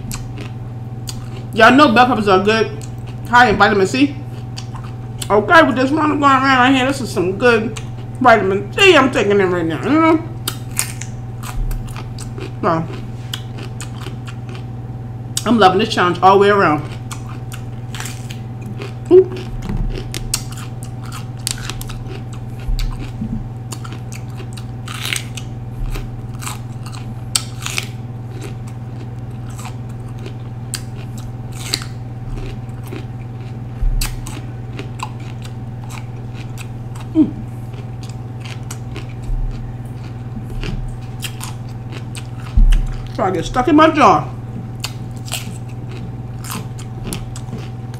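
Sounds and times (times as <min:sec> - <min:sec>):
person chewing crunchy pepper: 0:00.0 - 0:06.1, 0:07.4 - 0:47.9
steady low hum: 0:00.0 - 0:47.9.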